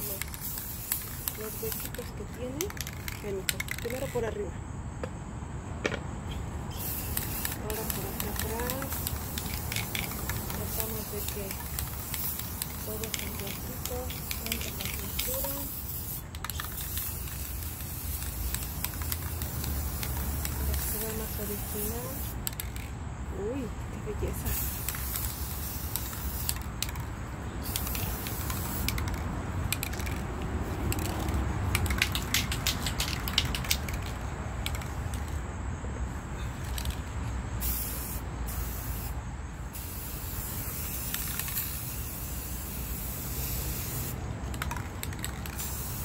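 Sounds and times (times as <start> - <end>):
spray paint can hissing: 0.0 - 4.5, 6.3 - 35.4, 36.1 - 46.0.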